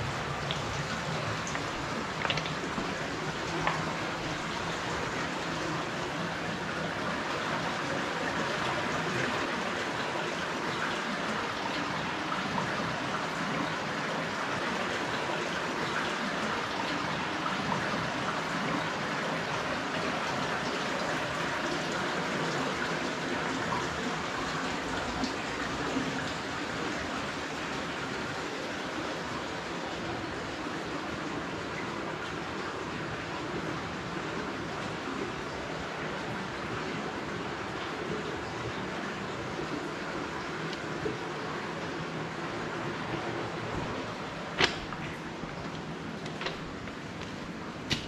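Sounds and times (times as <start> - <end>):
underground stream rushing: 0.0 - 48.0.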